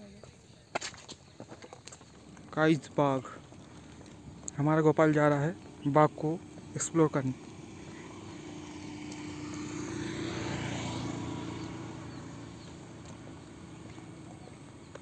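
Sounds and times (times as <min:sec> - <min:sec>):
motor vehicle passing by: 0:02.0 - 0:15.0.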